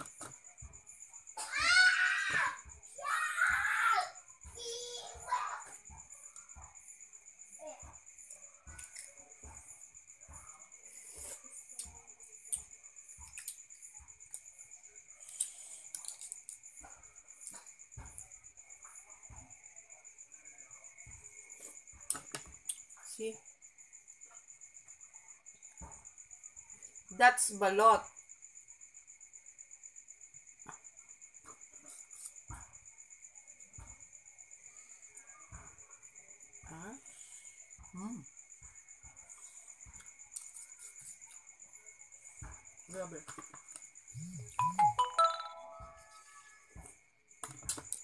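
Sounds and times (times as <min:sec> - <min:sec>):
high-pitched insect chirping: 0:00.0 - 0:48.0.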